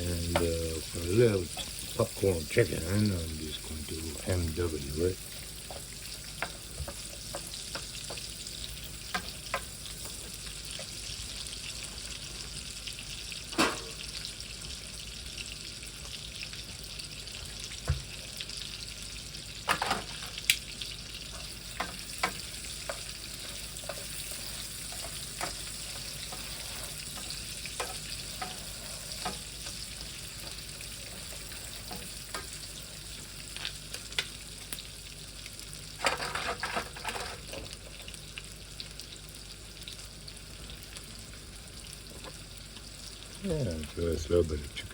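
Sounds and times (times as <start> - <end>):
potatoes sizzling in a pan: 0.0 - 44.9.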